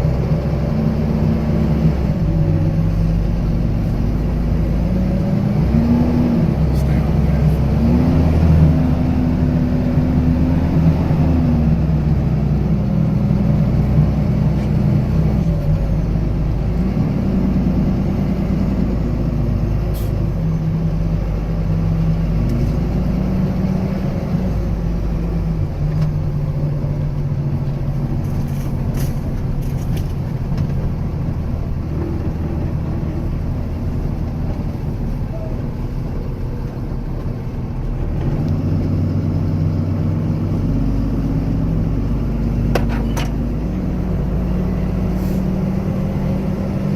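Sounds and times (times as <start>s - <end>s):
truck engine running under load: 0.0s - 46.9s.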